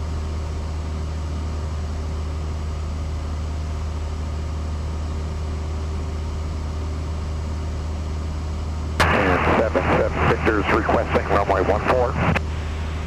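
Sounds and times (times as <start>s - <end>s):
airplane engine and propeller droning: 0.0s - 13.0s.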